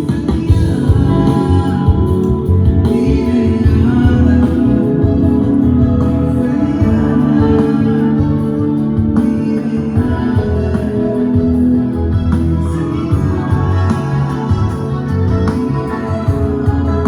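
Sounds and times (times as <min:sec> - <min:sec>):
electronic keyboard organ chords: 0:00.0 - 0:17.0
guitar: 0:00.0 - 0:17.0
person singing: 0:00.0 - 0:17.0.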